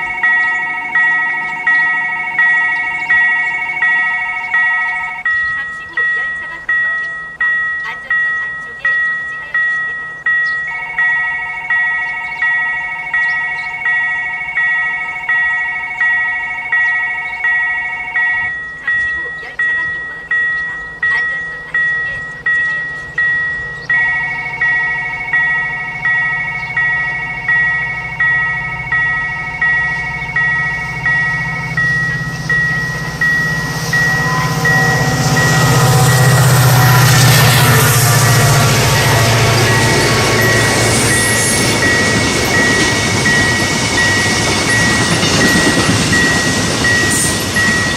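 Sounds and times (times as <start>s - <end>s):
crossing warning bell dinging: 0.0s - 47.9s
long electronic tones: 0.0s - 47.9s
train rumble: 0.0s - 47.9s.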